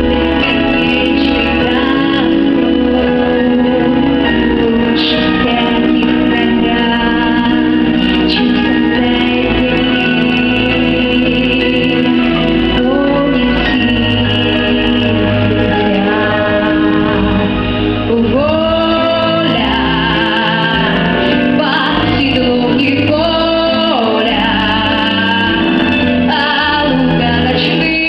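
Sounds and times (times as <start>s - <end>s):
instrumental accompaniment: 0.0s - 28.0s
woman singing: 0.0s - 28.0s.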